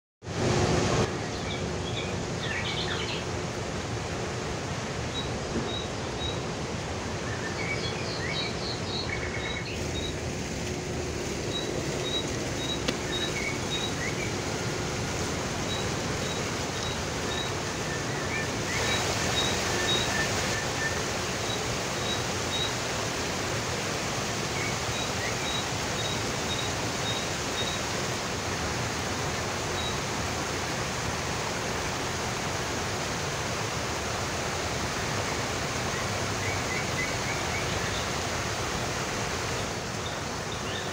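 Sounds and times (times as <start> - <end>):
fountain water splashing: 0.3 - 40.9.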